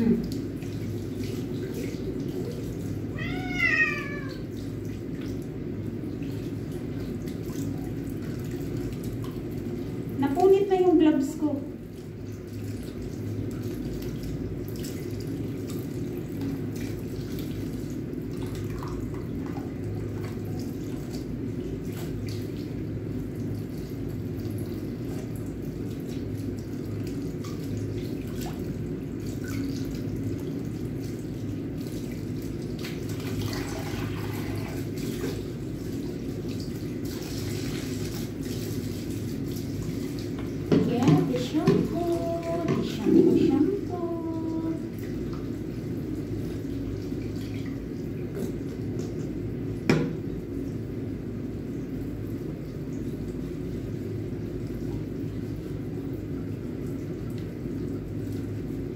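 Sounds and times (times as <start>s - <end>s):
small splashes and clicks: 0.0s - 10.7s, 11.9s - 50.8s, 56.5s - 58.7s
tap water running into a basin: 0.0s - 58.9s
water splashing on wet fur: 0.0s - 58.9s.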